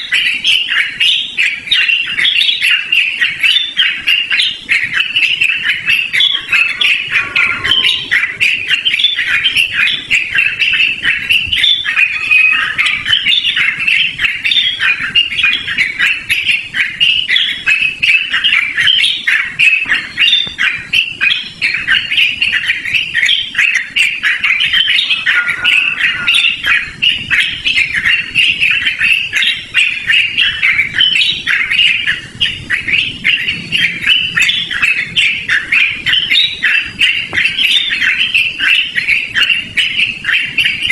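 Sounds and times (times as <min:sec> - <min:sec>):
bird chattering and warbling: 0:00.0 - 0:40.9.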